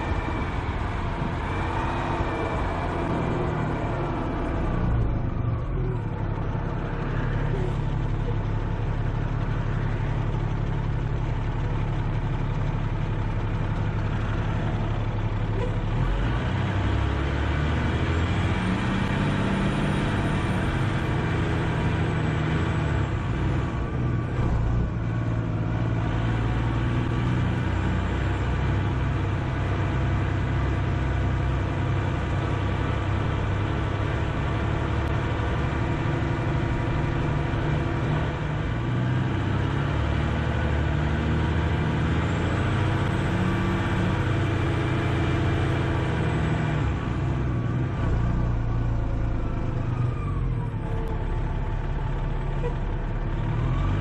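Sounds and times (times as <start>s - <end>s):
diesel engine drone from cab: 0.0s - 54.0s.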